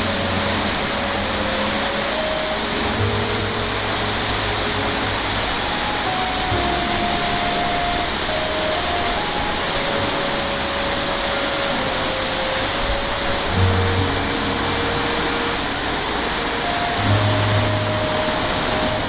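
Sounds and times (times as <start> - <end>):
slow melody of long notes: 0.0 - 19.0
steady rushing noise: 0.0 - 19.0.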